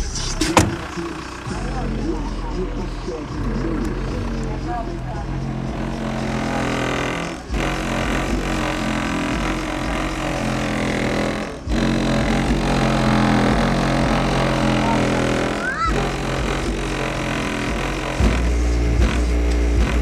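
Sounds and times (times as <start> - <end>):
car panels buzzing: 0.0 - 2.2, 2.8 - 20.0
bass-heavy music through subwoofer: 0.0 - 20.0.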